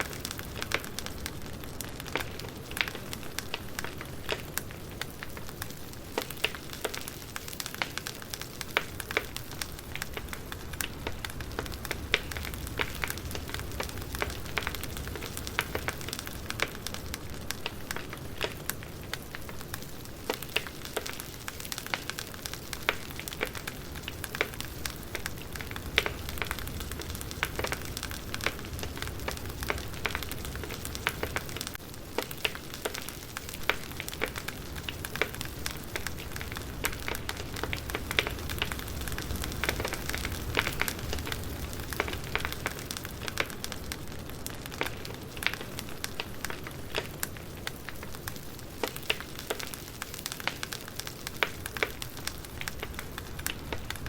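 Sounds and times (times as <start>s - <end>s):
low rumble and hiss of fire: 0.0s - 54.0s
wood fire snapping and popping: 0.0s - 54.0s.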